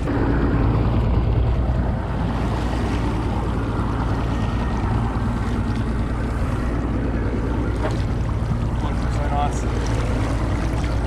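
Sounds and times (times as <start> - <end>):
boat engine running: 0.0 - 11.0
water rushing past hull: 0.0 - 11.0.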